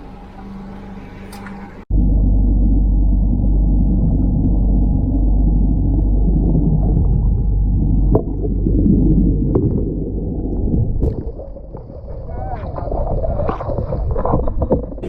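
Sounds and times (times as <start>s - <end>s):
muffled low rumble: 1.8s - 15.0s.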